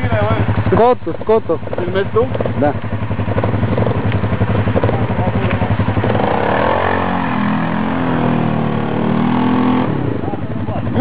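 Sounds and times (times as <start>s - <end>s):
quad engine revving: 0.0s - 11.0s.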